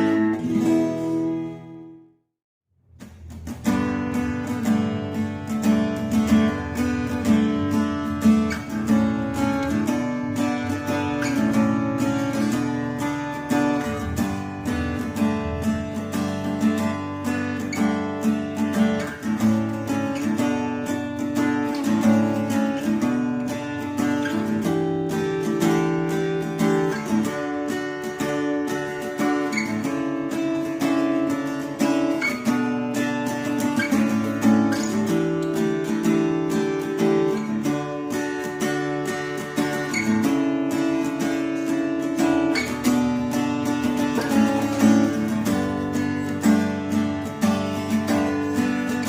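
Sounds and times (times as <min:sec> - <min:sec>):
acoustic guitar strumming chords: 0:00.0 - 0:02.2, 0:02.8 - 0:49.0.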